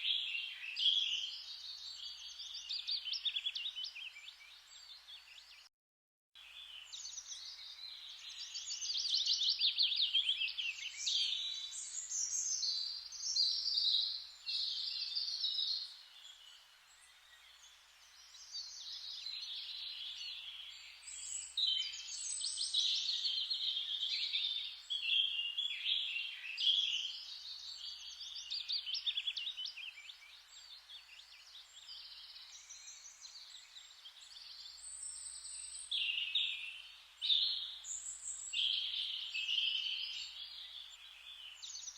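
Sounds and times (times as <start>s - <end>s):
songbirds trilling and chirping: 0.0s - 5.7s, 6.4s - 41.9s.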